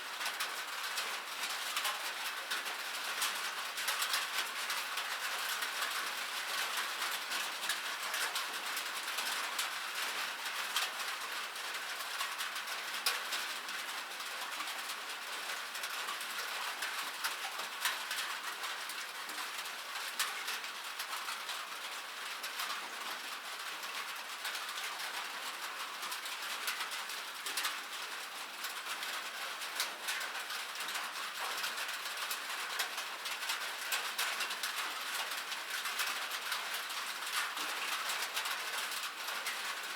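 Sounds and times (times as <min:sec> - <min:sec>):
rain on metal surface: 0:00.0 - 0:39.9.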